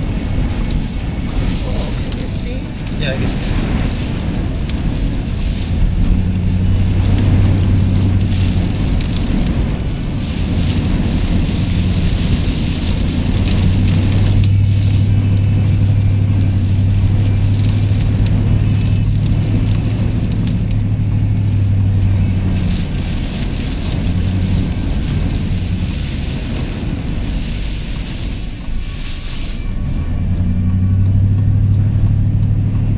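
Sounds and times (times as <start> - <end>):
car engine and tyres droning: 0.0 - 32.9
wind buffeting microphone: 0.0 - 32.9.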